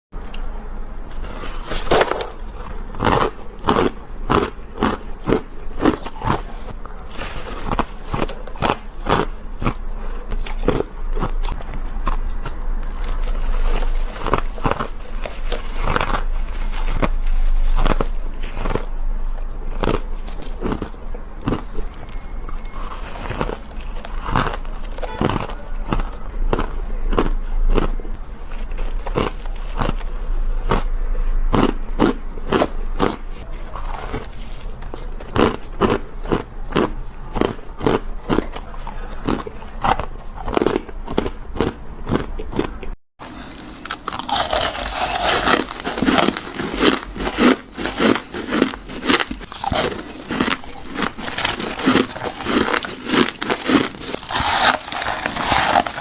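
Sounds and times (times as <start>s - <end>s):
person crunching ice cubes: 0.4s - 30.9s, 31.5s - 56.0s.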